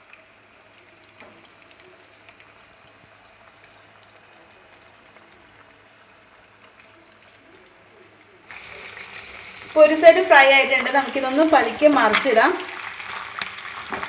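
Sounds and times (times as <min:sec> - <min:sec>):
oil bubbling and crackling: 0:00.0 - 0:14.0.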